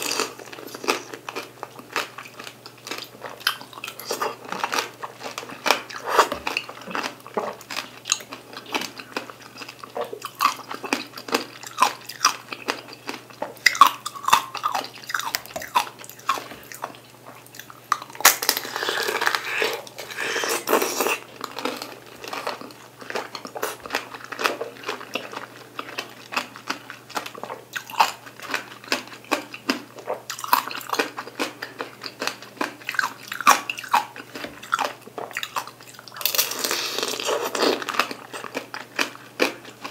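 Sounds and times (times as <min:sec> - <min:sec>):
crunching of candied fruit: 0:00.0 - 0:39.9.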